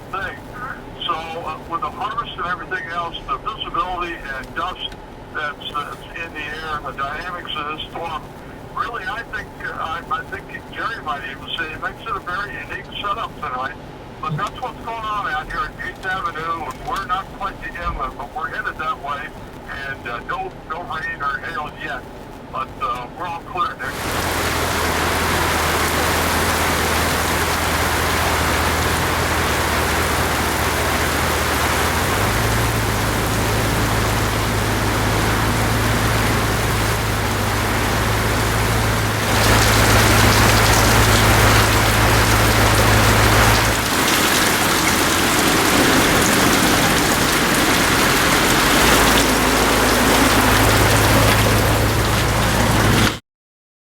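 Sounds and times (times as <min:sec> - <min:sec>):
engine and road drone: 0:00.0 - 0:23.2, 0:23.8 - 0:53.2.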